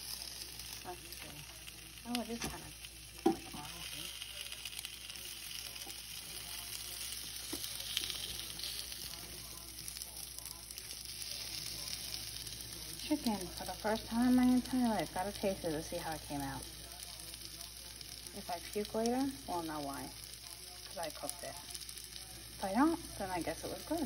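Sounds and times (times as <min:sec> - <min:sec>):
chicken sizzling on grill plate: 0:00.0 - 0:24.0.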